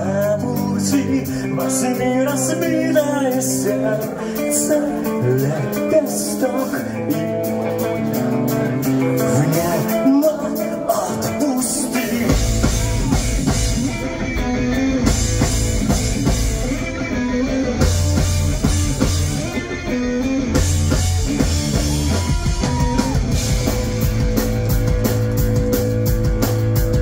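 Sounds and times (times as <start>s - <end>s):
pop-punk band playing: 0.0s - 27.0s.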